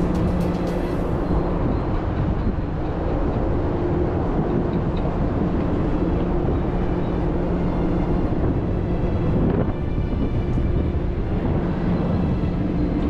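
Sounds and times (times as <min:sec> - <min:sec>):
loud machinery rumbling: 0:00.0 - 0:13.0.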